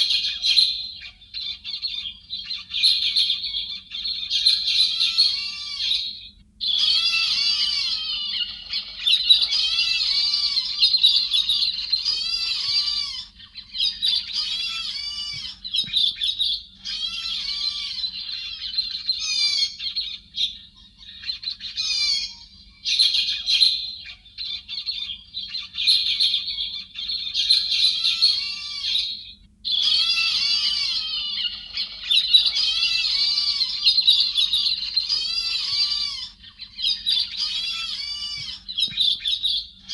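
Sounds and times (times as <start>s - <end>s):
flock of birds chattering: 0.0s - 39.9s.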